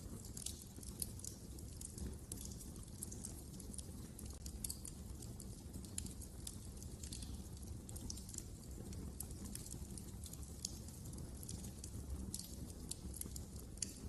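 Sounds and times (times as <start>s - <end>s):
fire crackling and snapping: 0.0s - 14.0s
low fire rumble: 0.0s - 14.0s.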